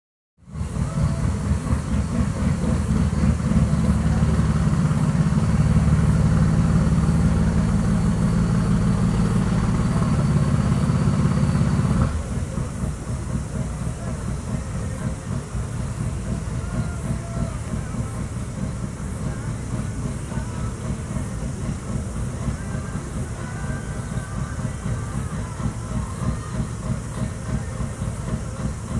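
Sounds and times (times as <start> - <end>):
diesel truck engine idling: 0.4 - 28.9
quiet engine rumble: 0.4 - 28.9.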